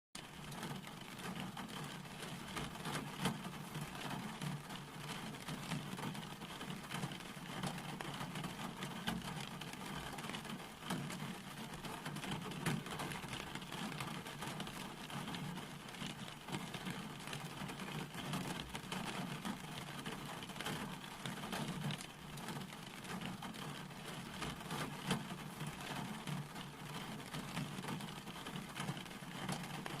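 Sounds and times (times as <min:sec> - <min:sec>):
steady rain falling: 0:00.2 - 0:30.0.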